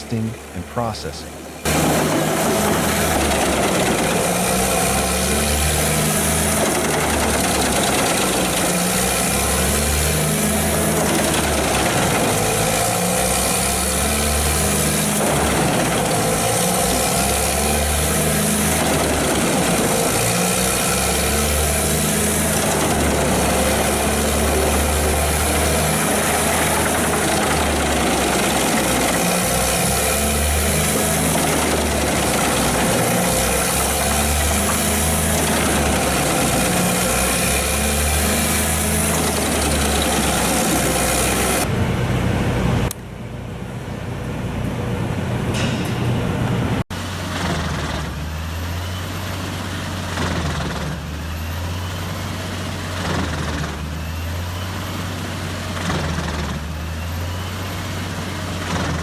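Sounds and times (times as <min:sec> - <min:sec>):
wood chipper diesel engine: 0:00.0 - 0:59.0.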